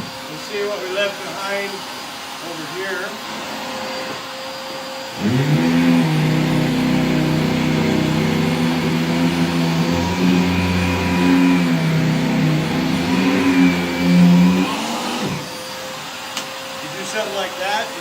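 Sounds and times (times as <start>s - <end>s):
vacuum cleaner low hum: 0.0s - 18.0s.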